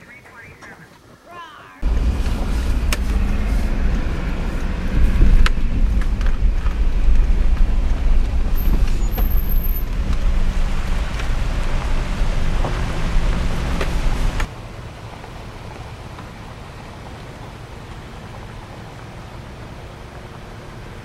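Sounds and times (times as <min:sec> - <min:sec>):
vehicle engine rumbling: 0:01.8 - 0:21.0.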